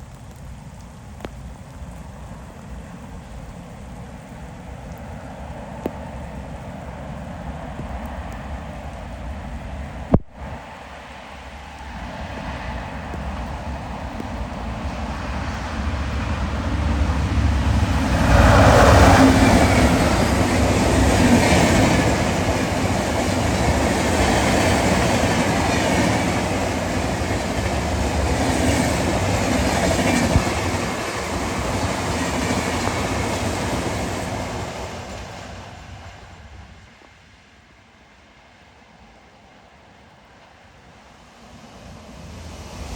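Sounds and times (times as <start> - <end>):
passenger train passing: 2.2 - 42.9.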